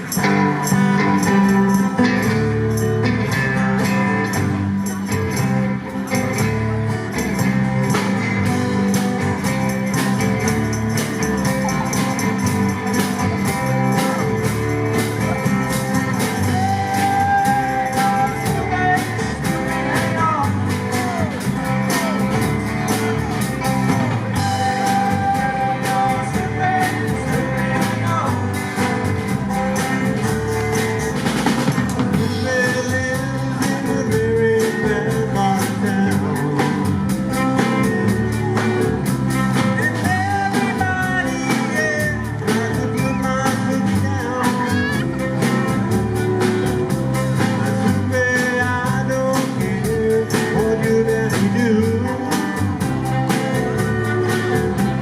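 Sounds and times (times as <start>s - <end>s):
drums: 0.0s - 55.0s
guitar: 0.0s - 55.0s.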